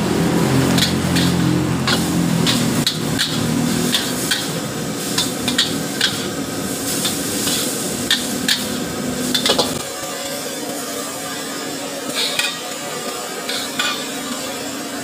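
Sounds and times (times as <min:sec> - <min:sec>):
food sizzling: 0:00.0 - 0:15.0
metal ladle scraping a wok: 0:00.7 - 0:15.0.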